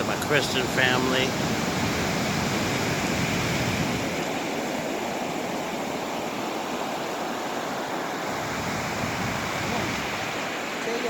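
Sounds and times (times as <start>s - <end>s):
ocean surf washing onto beach: 0.0s - 11.0s.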